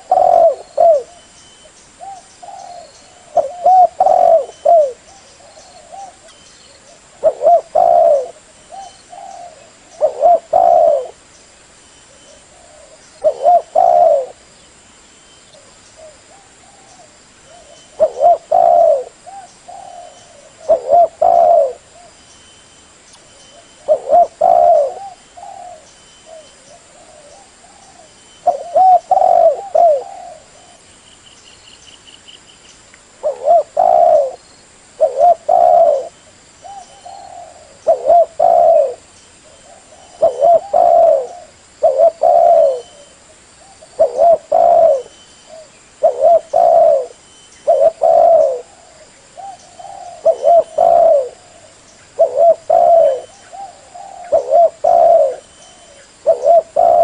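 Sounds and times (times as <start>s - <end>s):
dove cooing: 0.0s - 1.3s, 2.0s - 11.2s, 12.1s - 14.5s, 15.5s - 22.2s, 23.5s - 30.9s, 33.2s - 34.4s, 35.0s - 57.0s.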